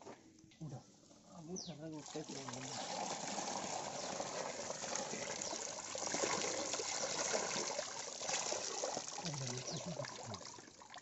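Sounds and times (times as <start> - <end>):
water pouring and splashing: 1.8 - 11.0.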